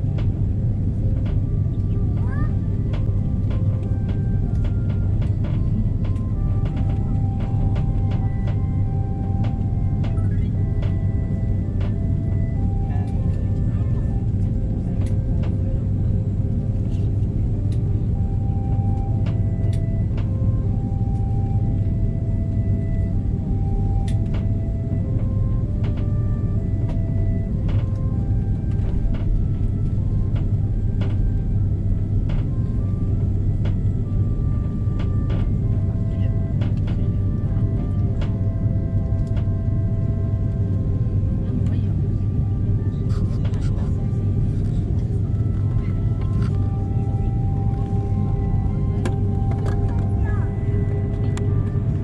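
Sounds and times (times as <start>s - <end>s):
aircraft cabin low rumble: 0.0s - 52.0s.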